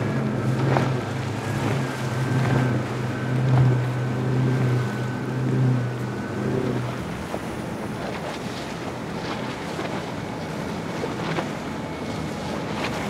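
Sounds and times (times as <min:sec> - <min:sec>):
outboard engines running: 0:00.0 - 0:13.0
water rushing: 0:00.0 - 0:13.0.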